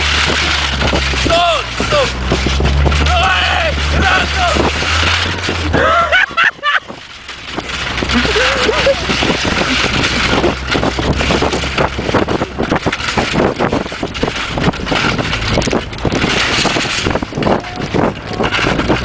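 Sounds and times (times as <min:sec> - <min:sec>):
car engine running: 0:00.0 - 0:19.0
tyres crunching on snow: 0:00.0 - 0:19.0
wind buffeting microphone: 0:00.0 - 0:19.0.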